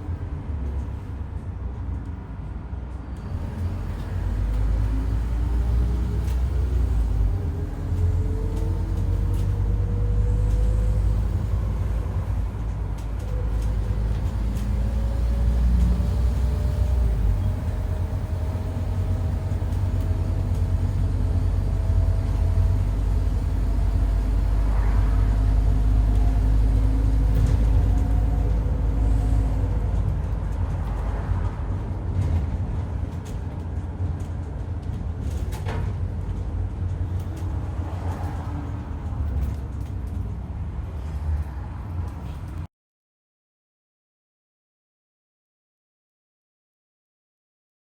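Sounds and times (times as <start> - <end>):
bus engine low rumble: 0.0 - 42.7.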